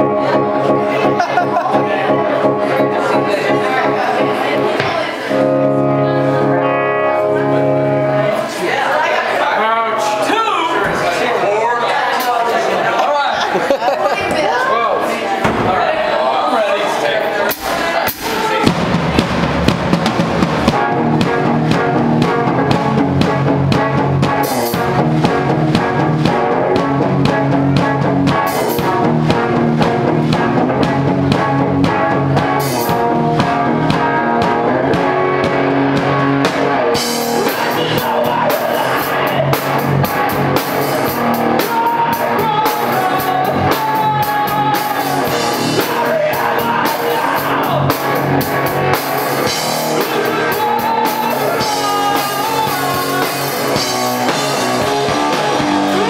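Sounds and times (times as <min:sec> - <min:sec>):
rock band playing live: 0:00.0 - 0:14.7, 0:17.4 - 0:56.0.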